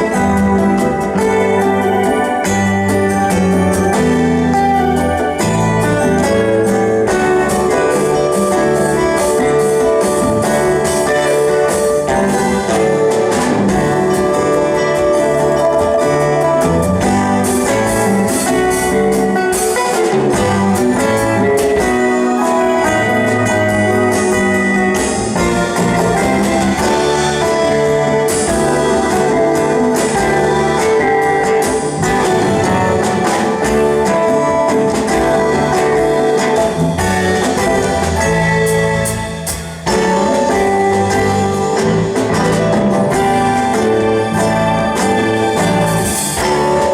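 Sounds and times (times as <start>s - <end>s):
band playing live: 0.0s - 46.9s.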